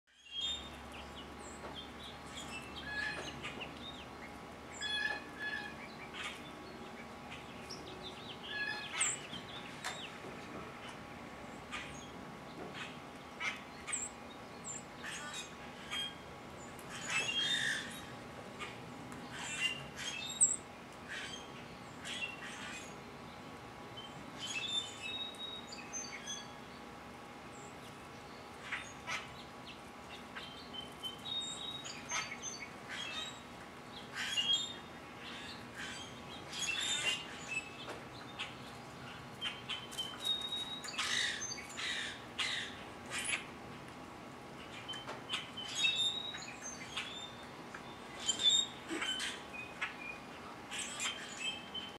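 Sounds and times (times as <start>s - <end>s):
birds chirping: 0.1s - 43.8s, 44.4s - 51.9s.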